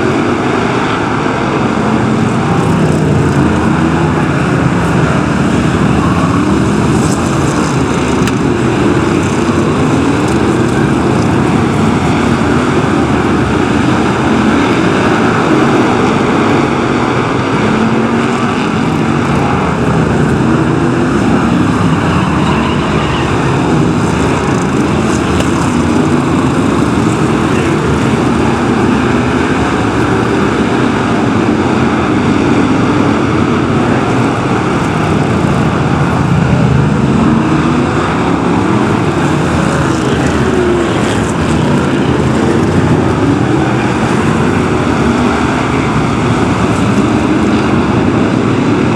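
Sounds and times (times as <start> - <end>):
stock car engines racing: 0.0 - 48.9.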